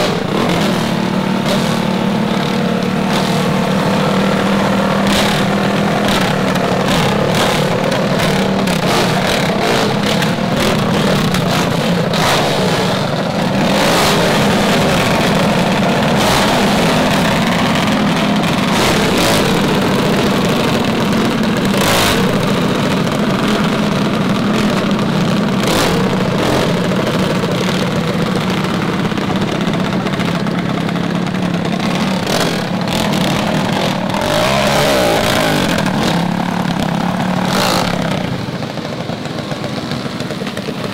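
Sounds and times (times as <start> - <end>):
small motorbike engine running: 0.0 - 40.9.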